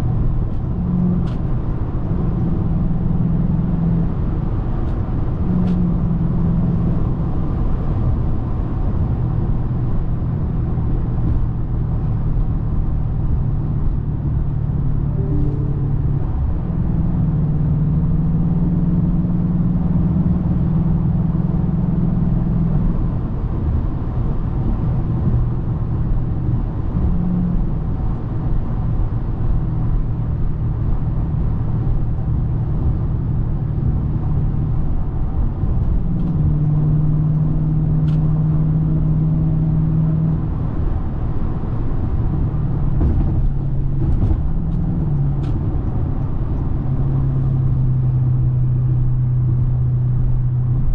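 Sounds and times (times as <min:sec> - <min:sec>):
car engine running: 0:00.0 - 0:20.6, 0:22.4 - 0:50.9
road noise: 0:00.0 - 0:50.9.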